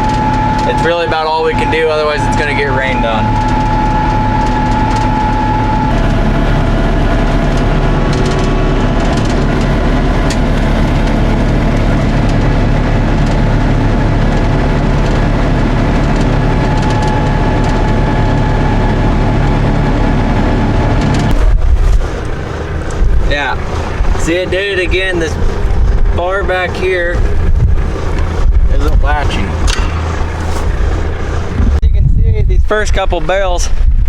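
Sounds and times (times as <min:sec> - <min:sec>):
baler whine: 0:00.0 - 0:32.2
tractor engine droning: 0:00.0 - 0:34.0.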